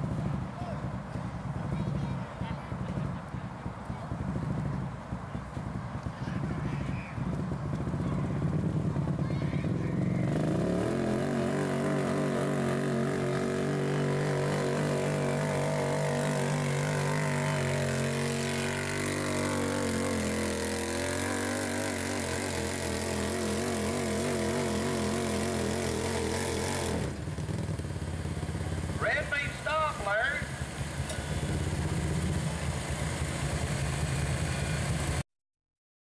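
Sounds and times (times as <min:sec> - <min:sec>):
atv engine running under load: 0:00.0 - 0:35.2.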